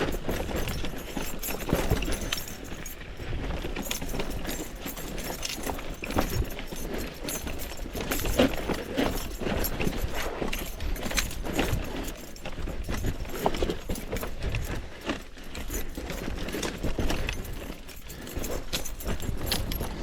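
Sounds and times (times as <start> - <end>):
mountain bike rattling: 0.0 - 20.0.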